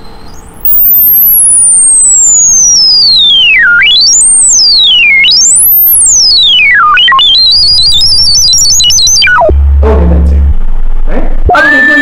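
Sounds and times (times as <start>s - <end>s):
sine-wave tone sweeping in pitch: 0.0s - 12.0s.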